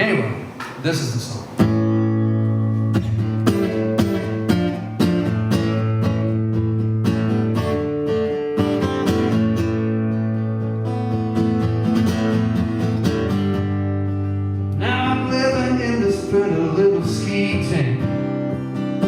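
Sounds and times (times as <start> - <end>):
acoustic guitar strumming: 1.5 - 19.0.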